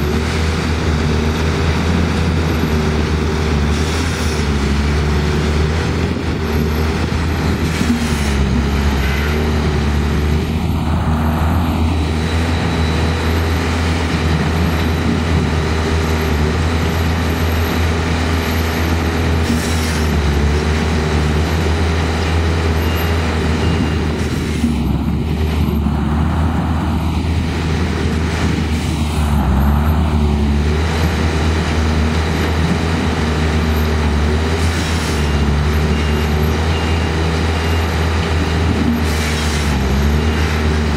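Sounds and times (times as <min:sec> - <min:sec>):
engine-driven machines droning: 0:00.0 - 0:40.9.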